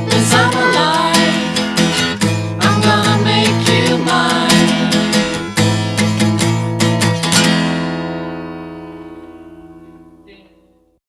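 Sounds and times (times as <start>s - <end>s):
strummed guitar chords: 0.0s - 10.2s.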